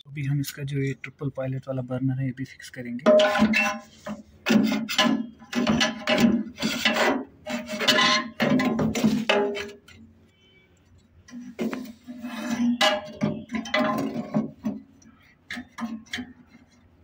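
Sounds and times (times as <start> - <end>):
metal scraping against metal frame: 3.1 - 17.0.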